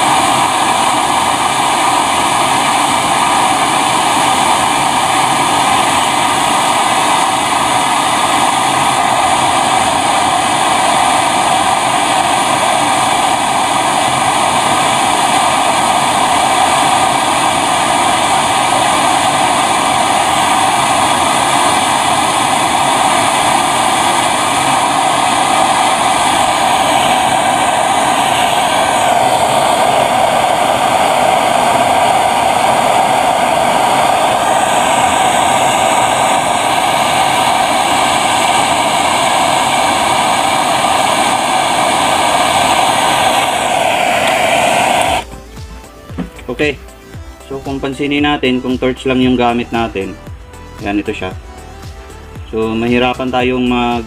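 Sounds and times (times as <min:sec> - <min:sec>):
gas torch flame hissing: 0:00.0 - 0:54.0.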